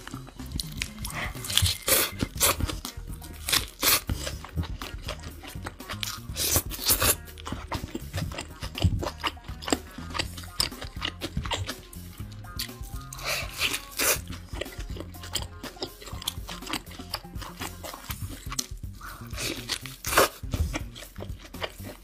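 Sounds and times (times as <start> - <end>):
background music with bass: 0.0 - 22.0
crunchy chewing: 0.0 - 22.0.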